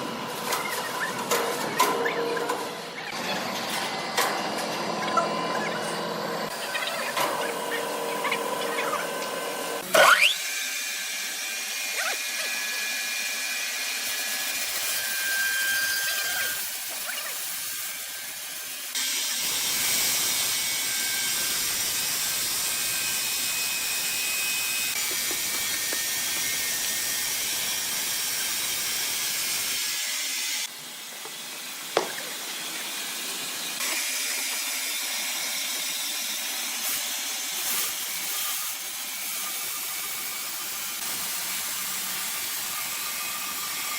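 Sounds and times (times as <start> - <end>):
saw cutting wood: 0.0 - 43.9.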